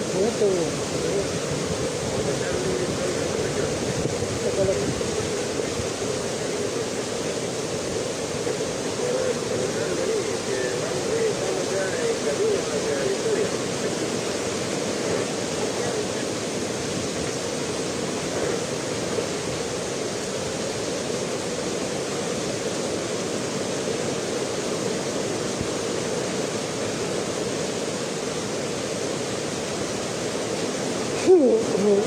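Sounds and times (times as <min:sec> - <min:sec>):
roar of rushing floodwater: 0:00.0 - 0:32.0.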